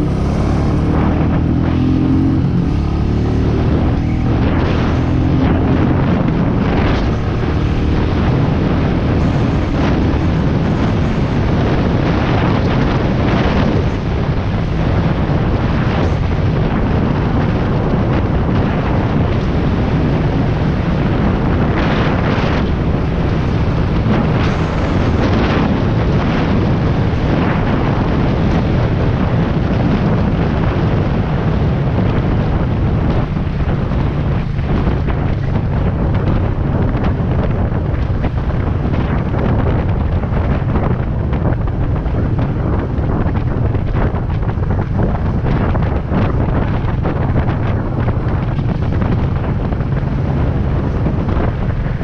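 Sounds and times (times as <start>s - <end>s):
motorcycle engine running: 0.0s - 52.0s
road noise: 0.0s - 52.0s
wind buffeting microphone: 0.0s - 52.0s.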